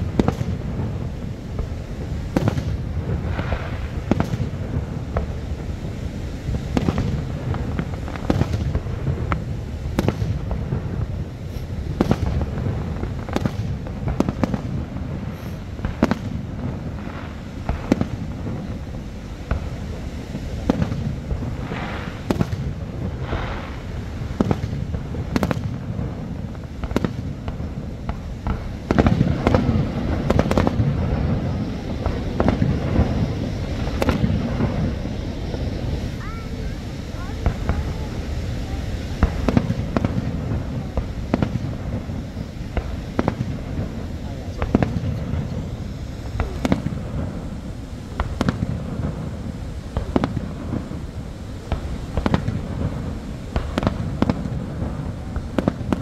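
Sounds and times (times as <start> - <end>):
firework crackle: 0.0 - 56.0
fireworks bursting with bangs: 0.0 - 56.0.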